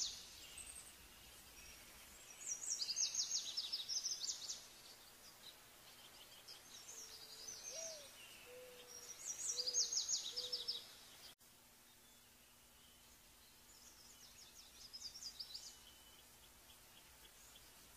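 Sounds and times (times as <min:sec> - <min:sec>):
soft whistled bird notes: 0:00.0 - 0:17.9.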